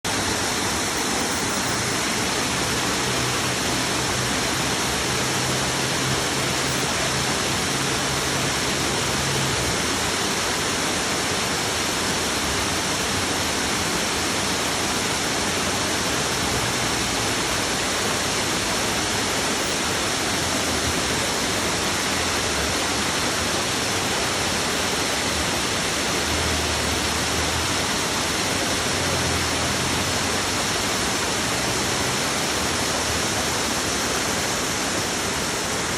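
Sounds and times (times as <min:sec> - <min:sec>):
waterfall pouring and splashing: 0:00.0 - 0:35.9.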